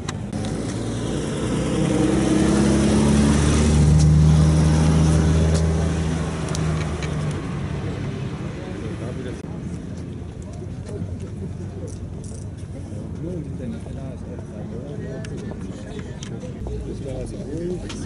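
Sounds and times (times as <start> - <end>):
sports car driving slowly past: 0.2 - 14.7.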